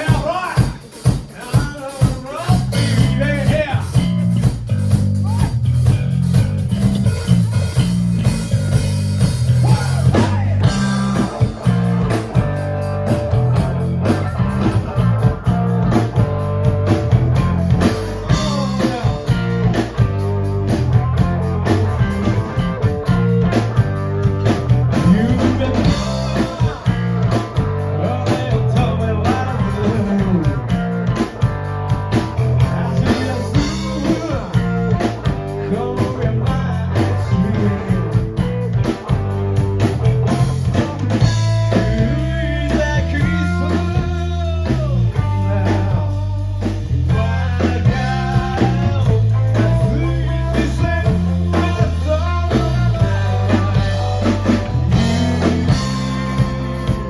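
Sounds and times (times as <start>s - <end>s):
bass guitar: 0.0s - 57.0s
drum kit: 0.0s - 57.0s
electric guitar: 2.5s - 57.0s.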